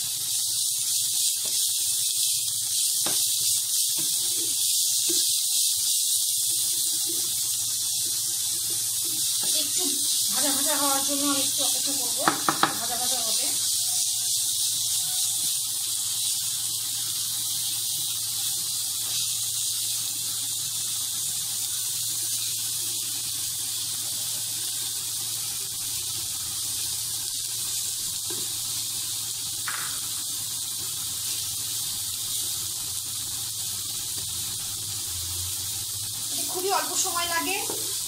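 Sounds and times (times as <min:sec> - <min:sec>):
onions sizzling in hot oil: 0:00.0 - 0:38.0.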